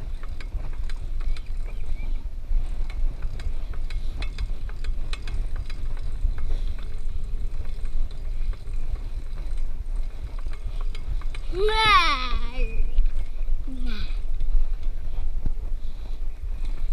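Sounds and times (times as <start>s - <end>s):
small clicks and crackles: 0.0s - 16.9s
wind rumbling on microphone: 0.0s - 16.9s.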